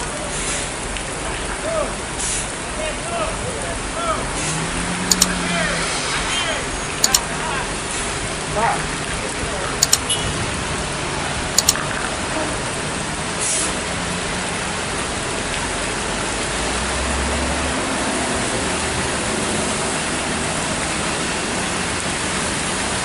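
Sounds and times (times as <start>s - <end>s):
heavy rain on wet road: 0.0s - 23.0s.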